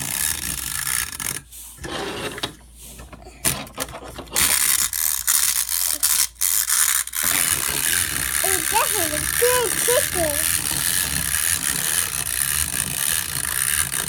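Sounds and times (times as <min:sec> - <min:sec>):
wind-up toy clockwork whirring: 0:00.0 - 0:03.1, 0:03.8 - 0:14.0.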